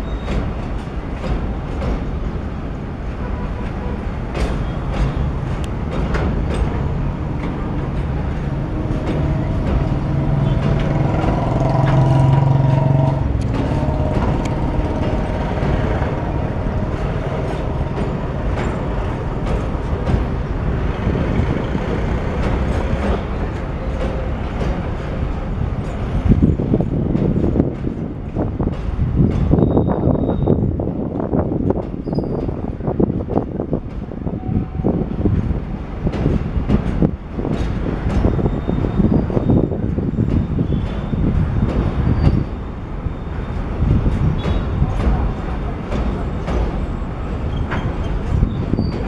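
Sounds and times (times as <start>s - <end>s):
train wagons rumbling over bridge: 0.0s - 49.0s.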